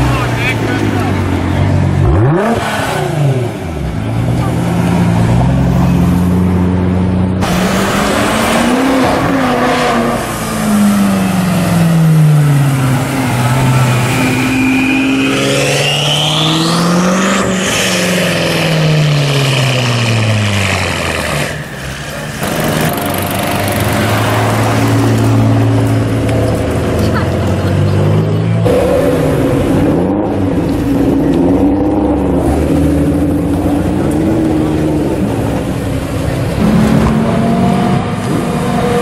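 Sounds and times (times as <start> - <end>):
car engine running close by: 0.0 - 39.0
car engines revving past: 0.0 - 39.0
high engine whine: 0.0 - 39.0.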